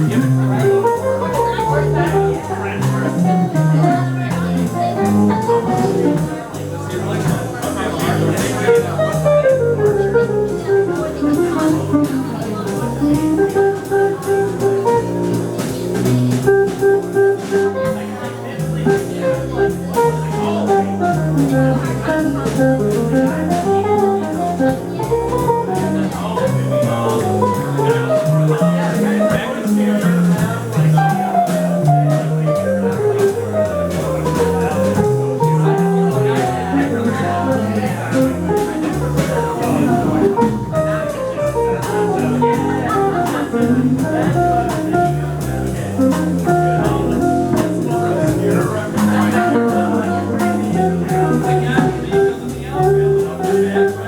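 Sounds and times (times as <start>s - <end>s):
jazz quartet playing swing: 0.0s - 54.0s
low bass notes: 0.0s - 54.0s
plucked melody line: 0.0s - 54.0s.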